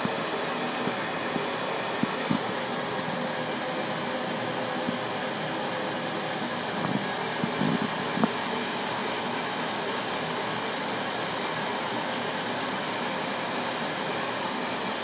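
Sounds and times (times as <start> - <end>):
laser engraver whirring: 0.0 - 15.0.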